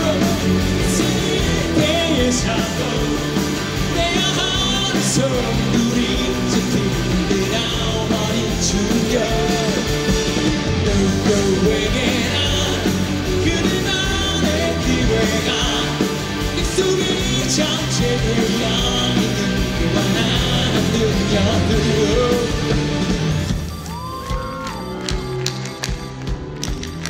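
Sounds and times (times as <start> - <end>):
live rock band with singer: 0.0 - 27.0.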